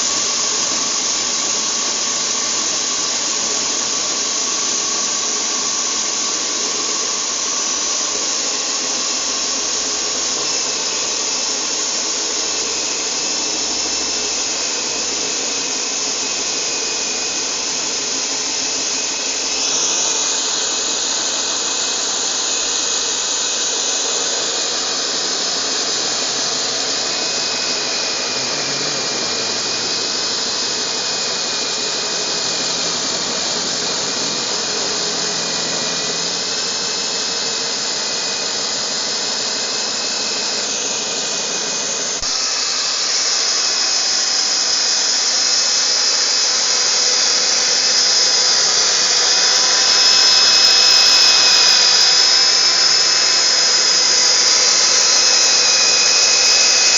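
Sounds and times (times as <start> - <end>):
core drill cutting concrete: 0.0 - 56.9.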